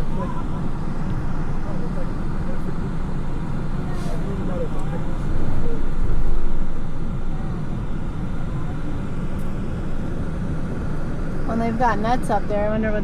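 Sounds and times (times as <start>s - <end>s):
road and engine rumble in vehicle: 0.0s - 13.0s.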